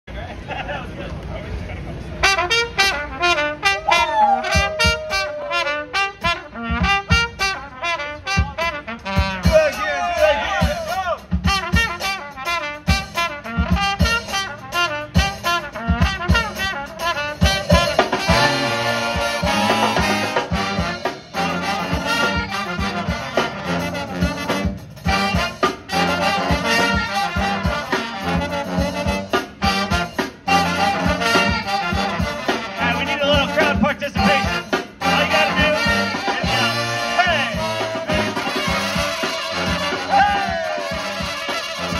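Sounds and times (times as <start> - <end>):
brass band playing: 2.0 - 41.9
drum beats: 2.3 - 41.9.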